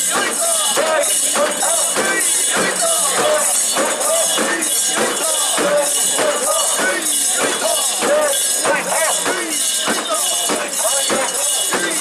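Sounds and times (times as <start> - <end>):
crowd chanting: 0.0 - 12.0
metal rings jangling: 0.0 - 12.0.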